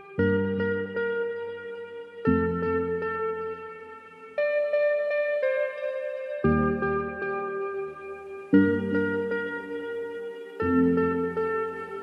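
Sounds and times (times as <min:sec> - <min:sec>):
background music chord and notes: 0:00.0 - 0:12.0.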